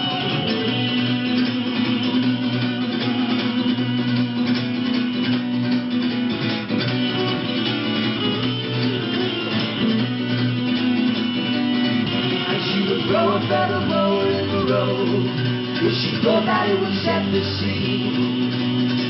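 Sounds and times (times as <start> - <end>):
strummed guitars: 0.0 - 19.0.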